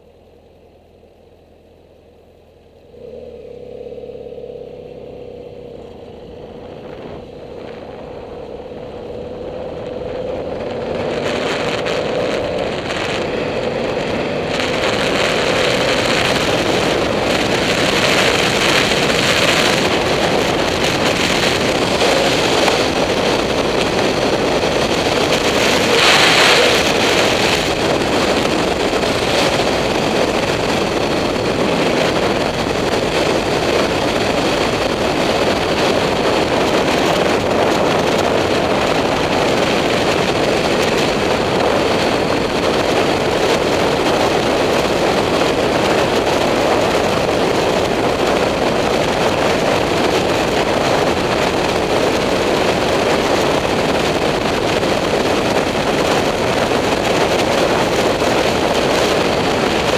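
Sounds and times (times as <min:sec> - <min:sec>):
motorcycle engine running: 0:00.0 - 0:59.9
wind rushing over microphone: 0:02.8 - 0:59.9.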